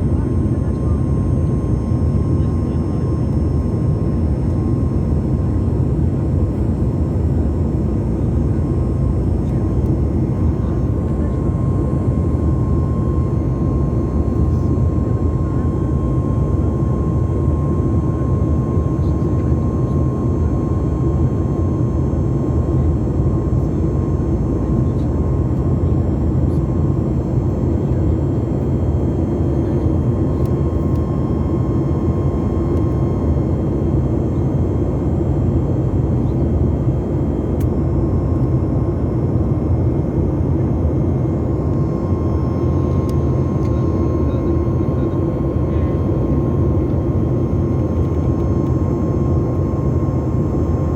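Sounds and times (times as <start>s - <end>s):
jet engines roaring in cabin: 0.0s - 50.9s
thin steady whine: 0.0s - 50.9s.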